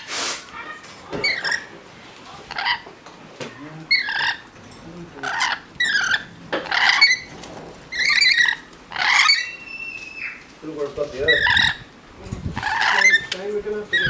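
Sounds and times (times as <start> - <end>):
bird chirping: 0.6 - 14.0.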